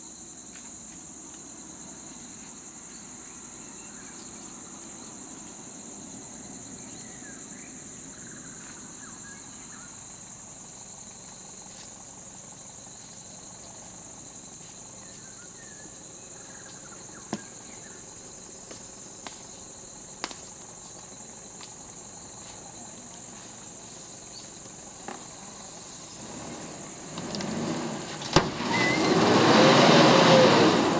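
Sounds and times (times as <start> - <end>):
insects droning: 0.0 - 30.9.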